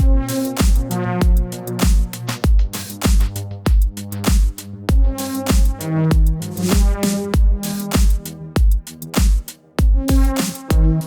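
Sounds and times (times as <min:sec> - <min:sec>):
electronic dance music: 0:00.0 - 0:11.0
heavy kick drums: 0:00.0 - 0:11.0.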